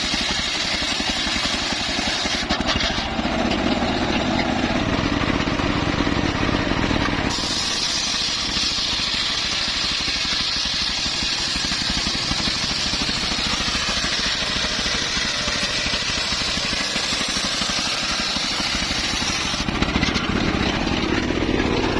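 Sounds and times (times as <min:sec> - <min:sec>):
band saw cutting wood: 0:00.0 - 0:21.9.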